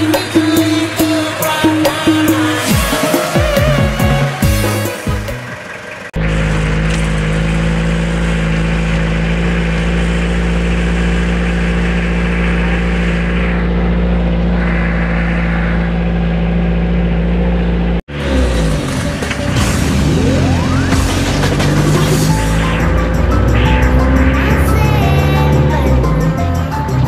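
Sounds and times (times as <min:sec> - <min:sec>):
engine straining at high revs: 0:00.0 - 0:27.0.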